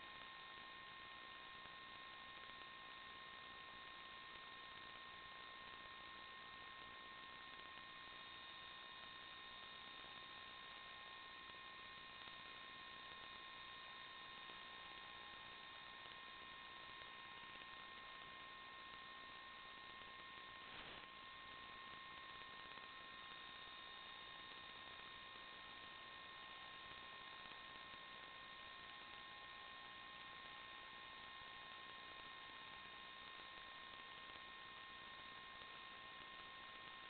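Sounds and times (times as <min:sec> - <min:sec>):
faint crackle: 0:00.0 - 0:37.0
faint electronic hiss: 0:00.0 - 0:37.0.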